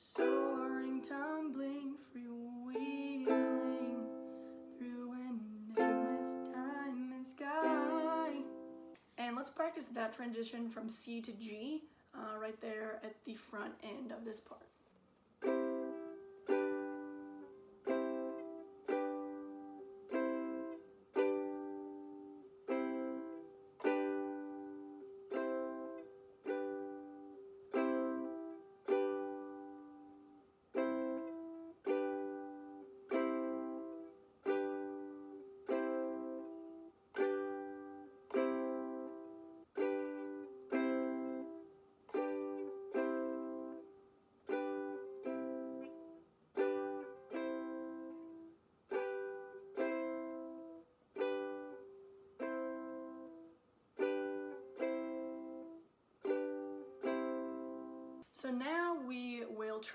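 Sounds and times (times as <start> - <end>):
ukulele strumming chords: 0.0 - 9.1, 15.4 - 59.8.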